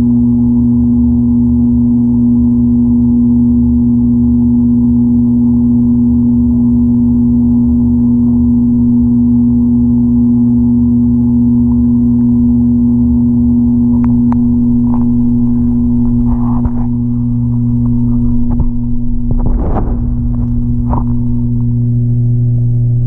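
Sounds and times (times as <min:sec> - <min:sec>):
aquarium pump hum: 0:00.0 - 0:23.0.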